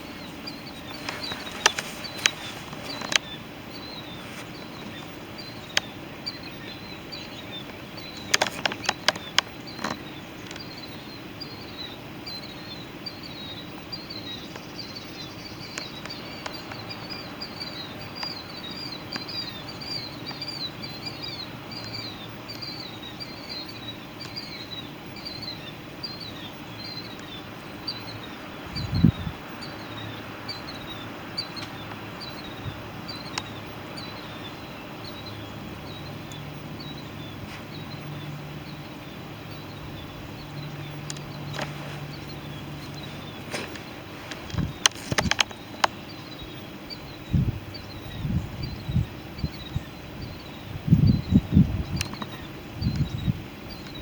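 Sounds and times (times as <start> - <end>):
small bird chirping: 0.0 - 54.0.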